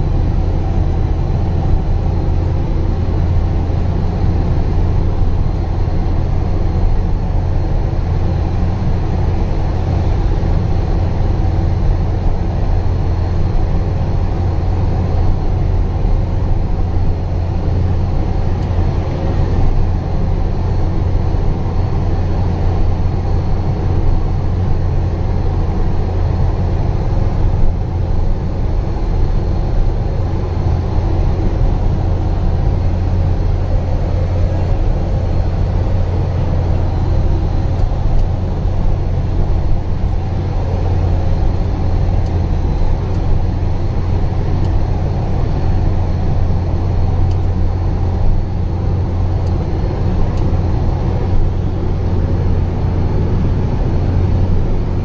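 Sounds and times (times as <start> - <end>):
truck engine drone: 0.0 - 55.0.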